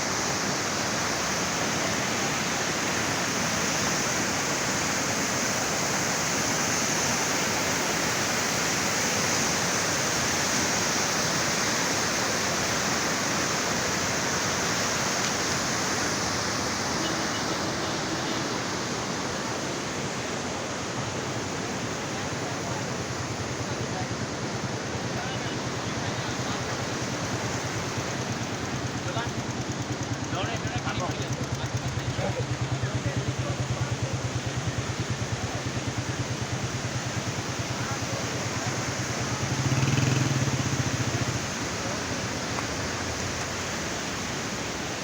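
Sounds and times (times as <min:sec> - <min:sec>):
flooded river rushing: 0:00.0 - 0:45.0.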